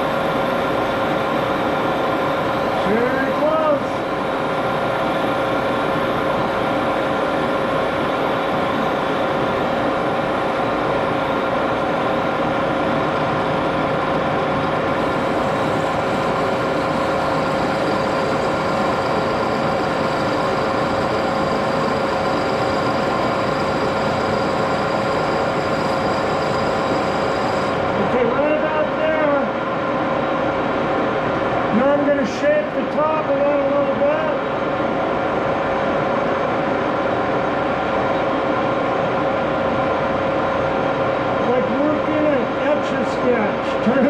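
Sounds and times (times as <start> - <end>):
lathe machine hum with whine: 0.0 - 44.0.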